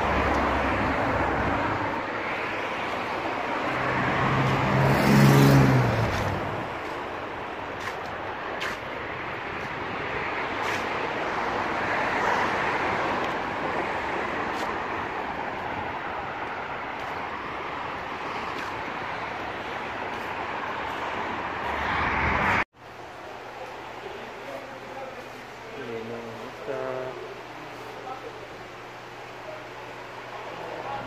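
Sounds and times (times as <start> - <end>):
traffic hiss: 5.7 - 31.0.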